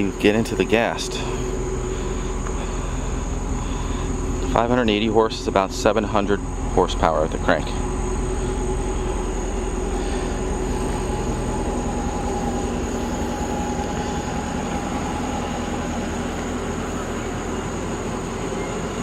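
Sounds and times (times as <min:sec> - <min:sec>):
engine exhaust rumble idling: 0:00.0 - 0:19.0
supercharger whine: 0:00.0 - 0:19.0.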